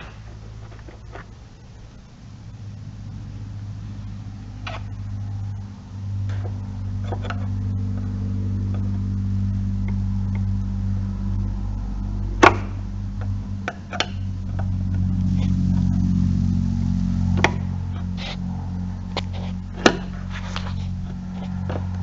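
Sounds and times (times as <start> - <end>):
low traffic hum: 0.0 - 22.0.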